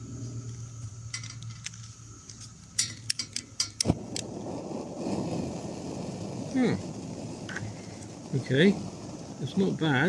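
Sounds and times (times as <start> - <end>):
gas igniting with soft thump: 0.0 - 10.0.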